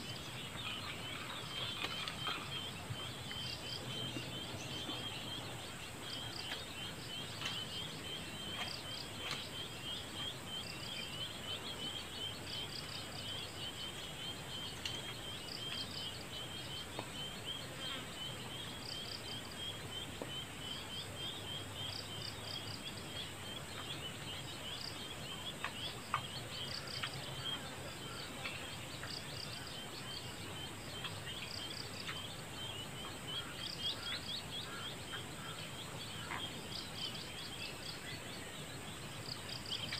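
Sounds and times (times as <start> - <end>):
birds and insects chirping: 0.0 - 39.9.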